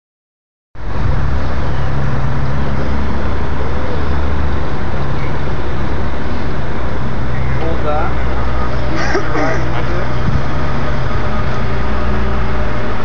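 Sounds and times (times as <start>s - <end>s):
loud machine hum: 0.8s - 13.0s.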